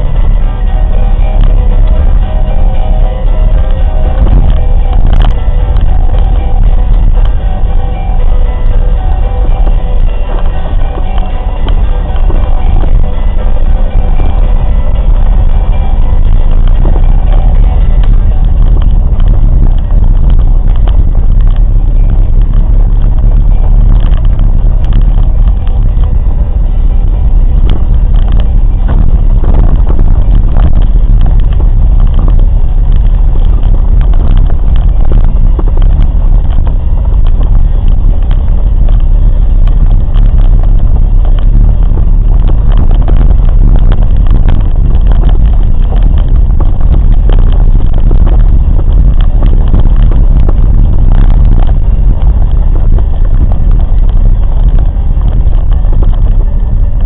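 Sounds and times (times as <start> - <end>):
train rumbling: 0.0 - 57.0
knocks and crackles: 0.1 - 57.0.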